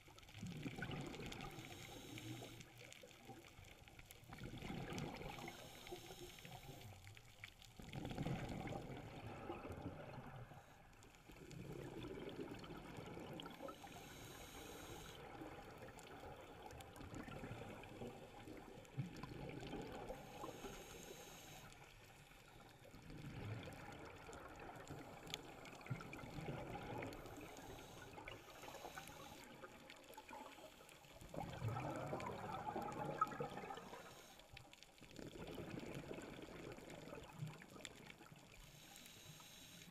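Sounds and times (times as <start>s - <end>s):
underwater exhaled air bubbling: 0.0s - 39.9s.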